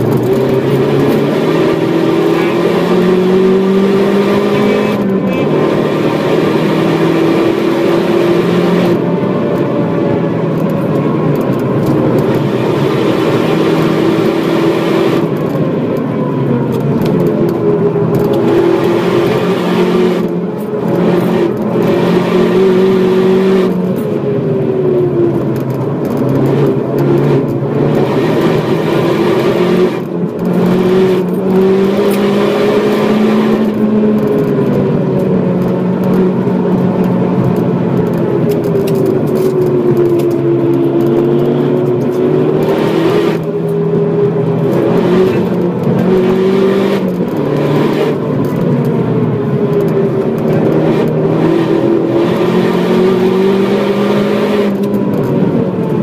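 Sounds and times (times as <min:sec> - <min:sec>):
car engine running hard: 0:00.0 - 0:56.0.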